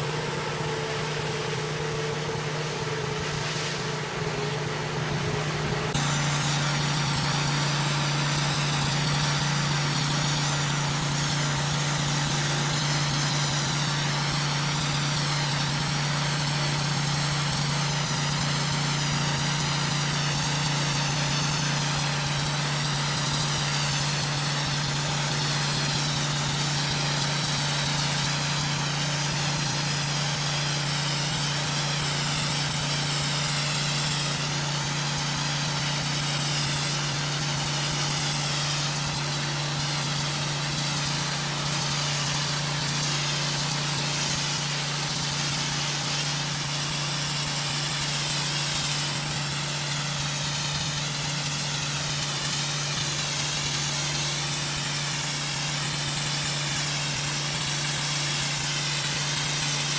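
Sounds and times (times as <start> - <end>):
pressure washer engine running: 0.0 - 59.9
water spraying on concrete: 0.0 - 59.9.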